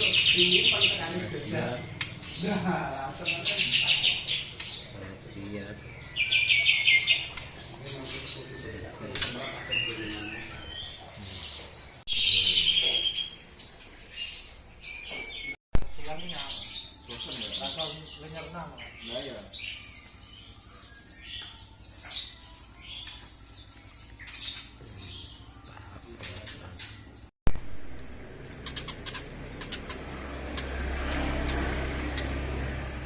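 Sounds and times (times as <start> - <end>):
songbirds chirping and whistling: 0.0 - 33.0.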